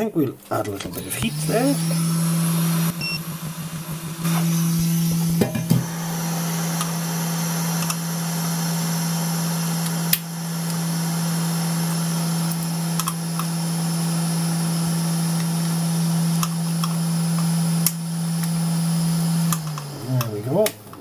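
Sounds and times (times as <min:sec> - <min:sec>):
hot air station blowing: 0:00.9 - 0:20.5.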